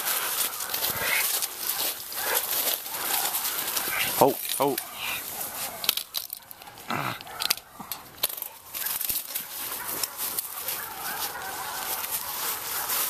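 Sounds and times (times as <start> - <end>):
footsteps crunching through grass: 0.0 - 13.0.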